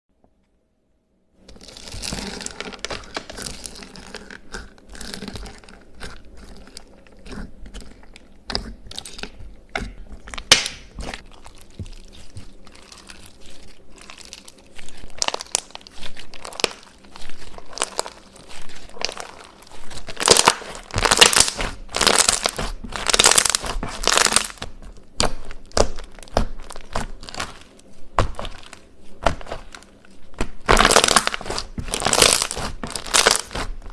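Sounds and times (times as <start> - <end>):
crunching and crinkling: 1.4 - 33.9.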